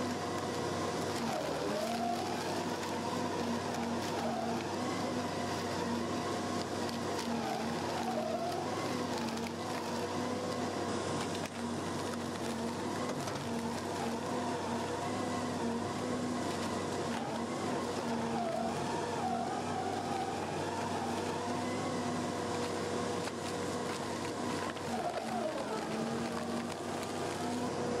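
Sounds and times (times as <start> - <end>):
stump shredder droning: 0.0 - 28.0.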